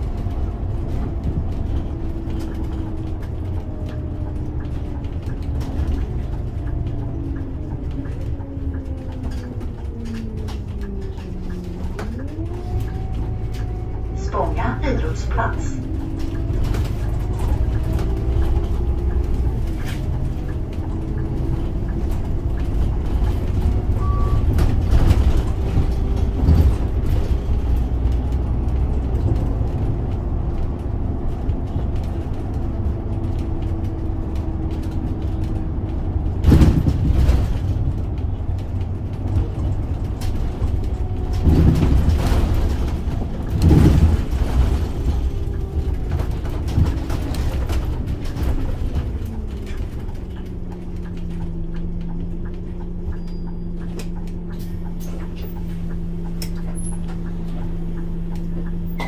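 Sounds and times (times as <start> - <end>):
bus engine rumble: 0.0 - 59.0
drivetrain whine: 0.0 - 59.0.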